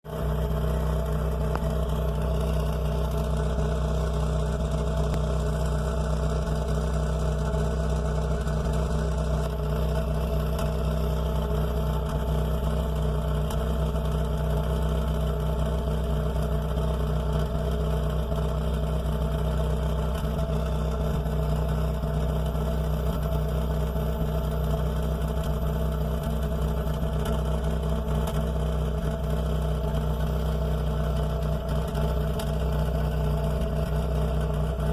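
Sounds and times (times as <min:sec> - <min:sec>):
car engine idling at exhaust: 0:00.0 - 0:34.9.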